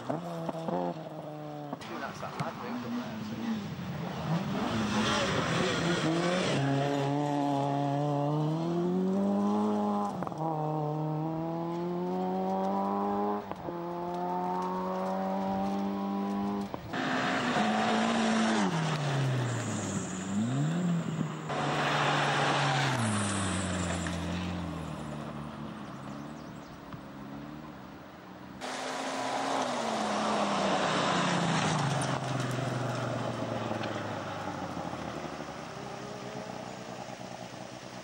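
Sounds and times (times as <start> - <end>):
rally car engine revving: 0.0 - 26.8, 28.6 - 38.0
rally car passing on gravel: 0.0 - 27.8, 28.6 - 38.0.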